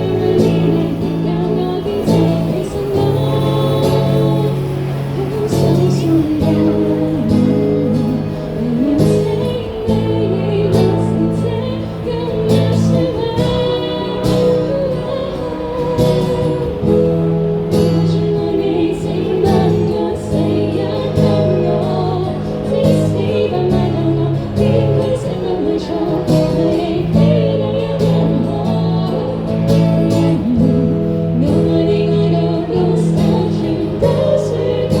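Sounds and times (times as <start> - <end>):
guitar: 0.0 - 35.0
person singing: 0.0 - 35.0.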